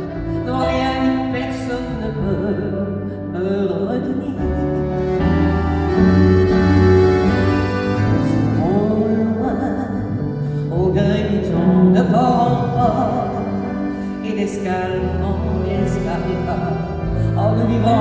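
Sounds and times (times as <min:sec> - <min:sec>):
woman singing with vibrato: 0:00.0 - 0:04.8, 0:08.1 - 0:18.0
accordion chords: 0:00.0 - 0:18.0.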